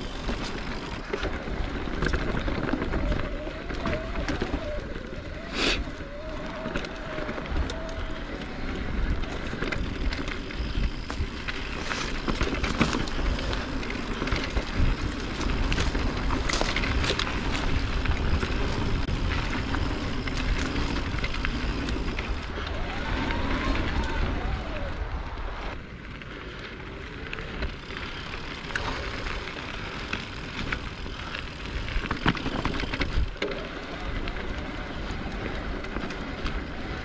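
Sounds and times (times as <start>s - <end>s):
bike chain and frame rattling: 0.0s - 25.1s, 25.7s - 37.0s
bike tyres on dirt and gravel: 0.0s - 37.0s
wind rumbling on microphone: 0.0s - 37.0s.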